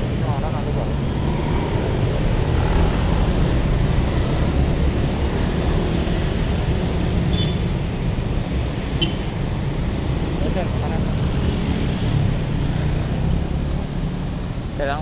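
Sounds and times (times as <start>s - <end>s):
traffic passing close by: 0.0s - 15.0s.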